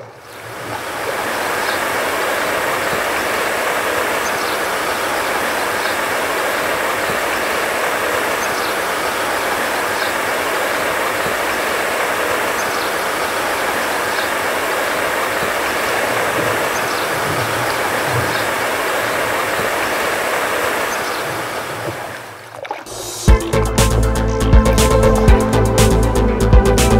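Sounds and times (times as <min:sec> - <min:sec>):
water rushing through weir: 0:00.0 - 0:25.5.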